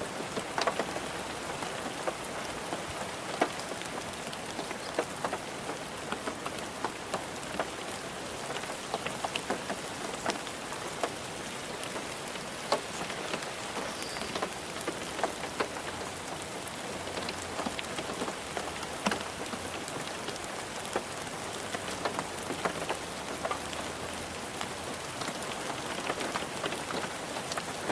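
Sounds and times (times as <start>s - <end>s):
rain on a car roof: 0.0s - 27.9s.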